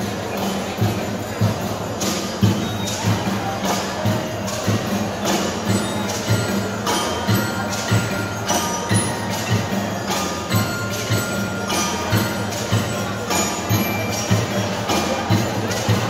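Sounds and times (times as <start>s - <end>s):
mallet keyboards playing: 0.0s - 16.0s
steady drum beat: 0.0s - 16.0s
melodicas playing: 0.1s - 16.0s.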